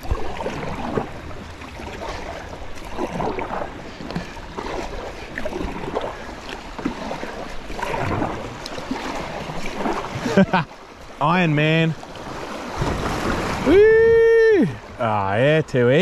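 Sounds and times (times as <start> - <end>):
paddle splashes: 0.0 - 16.0
rushing river water: 0.0 - 16.0.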